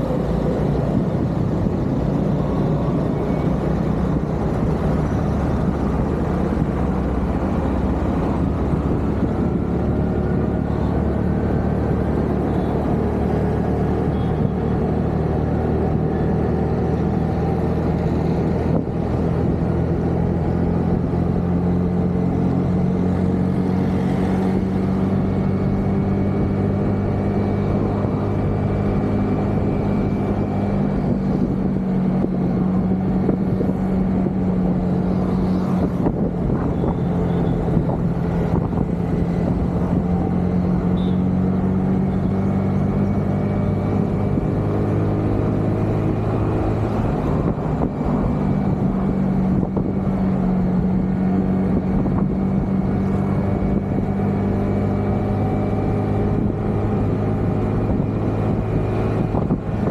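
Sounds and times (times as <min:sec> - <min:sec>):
scooter engine humming: 0:00.0 - 0:59.9
wind and road noise: 0:00.0 - 0:59.9.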